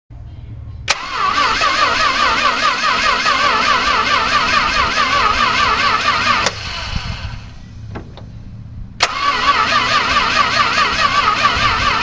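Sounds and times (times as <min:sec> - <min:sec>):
engine idling: 0:00.2 - 0:12.0.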